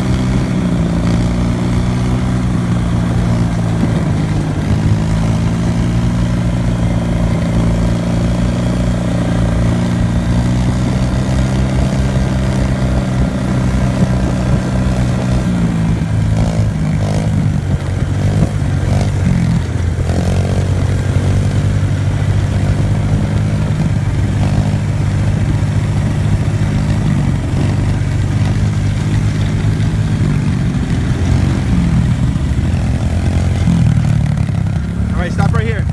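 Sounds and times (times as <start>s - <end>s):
dirt bike engine: 0.0s - 35.9s
quad engine running: 0.0s - 35.9s.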